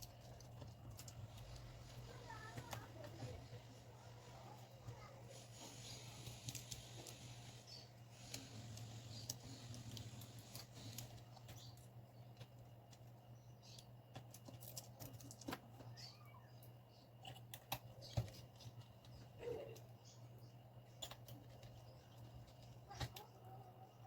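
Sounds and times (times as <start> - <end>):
small parts clicking and tapping: 0.0 - 3.7, 5.3 - 23.4.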